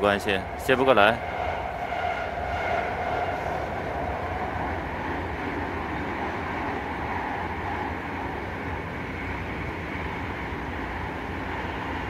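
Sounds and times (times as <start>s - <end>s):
train running noise inside car: 0.0s - 12.0s.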